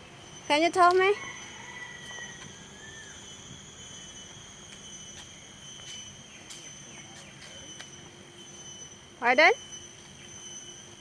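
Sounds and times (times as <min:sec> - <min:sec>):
insects shrilling: 0:00.1 - 0:11.0.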